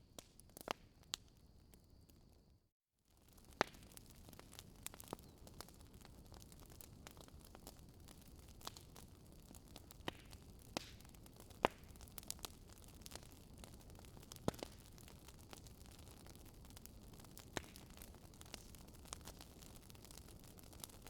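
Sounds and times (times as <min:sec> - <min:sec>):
campfire crackling: 0:00.1 - 0:21.0.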